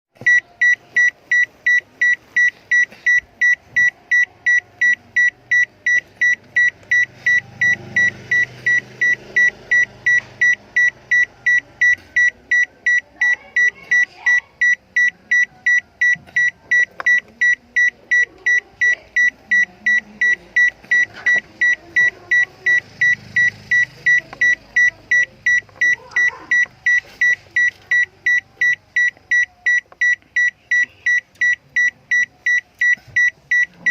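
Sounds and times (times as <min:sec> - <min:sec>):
electronic alarm beeping rapidly: 0:00.2 - 0:33.9.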